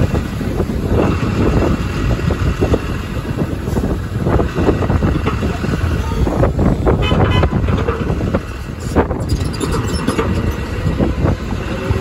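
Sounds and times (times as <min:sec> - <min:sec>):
bus passing with low rumble: 0:00.0 - 0:12.0
passing car traffic: 0:00.0 - 0:12.0
wind buffeting microphone: 0:00.0 - 0:12.0.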